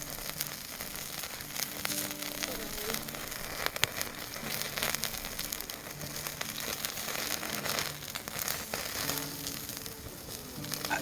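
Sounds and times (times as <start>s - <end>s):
fire crackling and popping: 0.0s - 11.0s.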